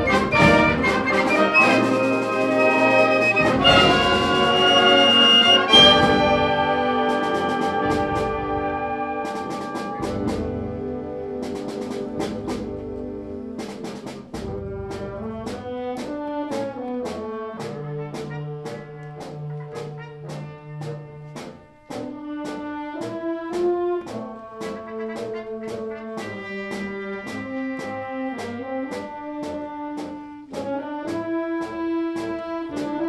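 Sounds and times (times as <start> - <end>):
steady percussion beat: 0.0 - 33.0
wind band playing a march: 0.0 - 33.0.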